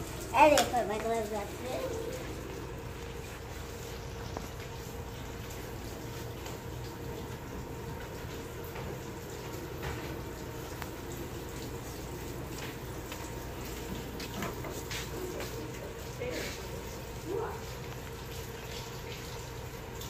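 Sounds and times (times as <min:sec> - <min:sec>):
tap water running into sink: 0:00.0 - 0:20.0.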